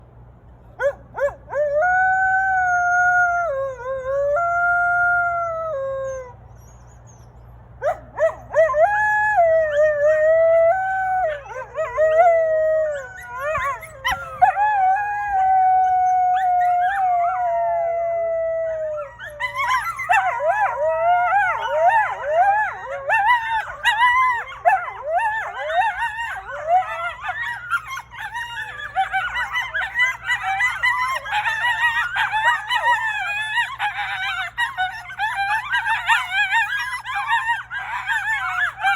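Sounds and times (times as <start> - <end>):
coyotes howling and yipping: 0.6 - 38.9.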